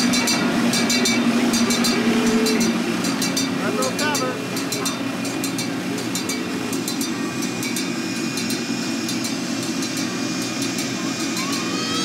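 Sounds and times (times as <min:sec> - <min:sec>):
train cars rumbling on track: 0:00.0 - 0:12.0
wheels clicking and rattling: 0:00.0 - 0:12.0.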